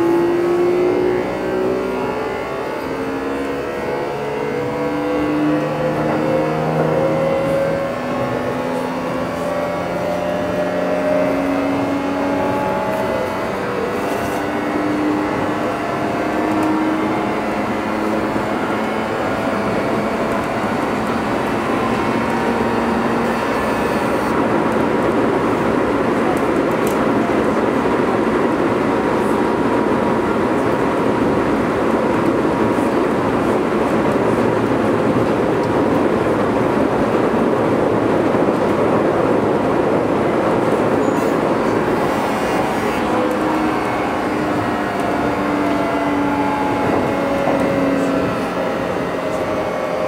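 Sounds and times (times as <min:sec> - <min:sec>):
inverter and motor whine: 0:00.0 - 0:50.0
train rumble on rails: 0:00.0 - 0:50.0.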